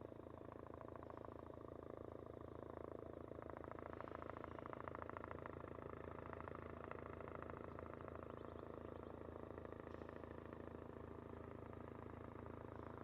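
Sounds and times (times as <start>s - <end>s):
distant aircraft engine droning: 0.2s - 13.0s.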